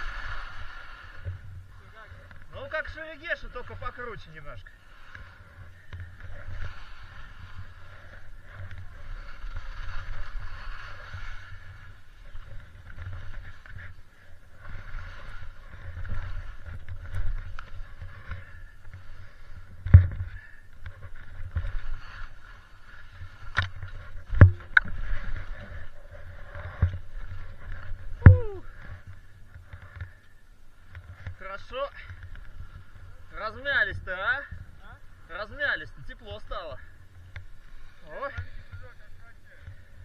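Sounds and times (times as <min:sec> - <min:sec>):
skis scraping through snow: 0:00.0 - 0:36.8.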